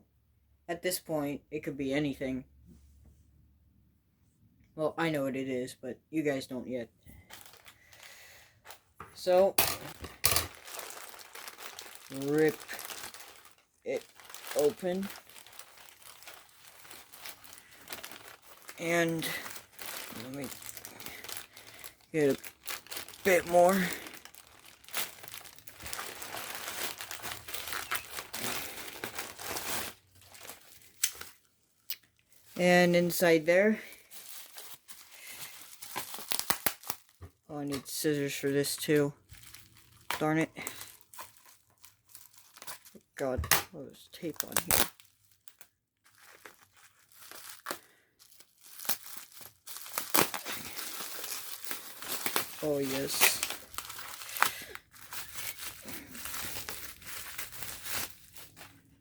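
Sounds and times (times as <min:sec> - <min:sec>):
packaging tearing and crumpling: 0:07.2 - 0:31.5, 0:33.8 - 0:59.0.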